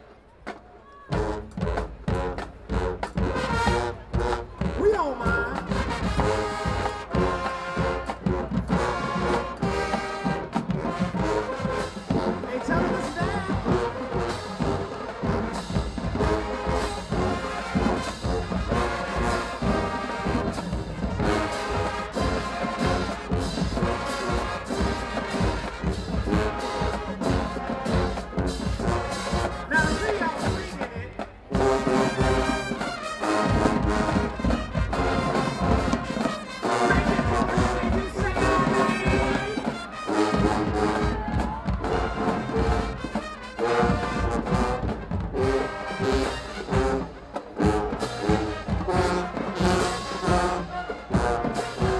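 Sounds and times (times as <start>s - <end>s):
marching band brass: 0.0s - 51.9s
drumline beat: 0.4s - 51.9s.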